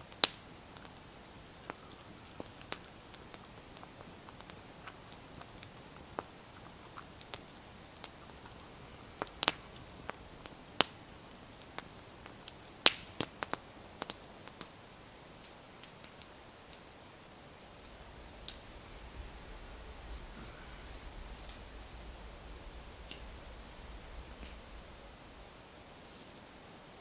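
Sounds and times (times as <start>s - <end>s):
campfire crackling: 0.0s - 27.0s
faint steady hiss: 0.0s - 27.0s.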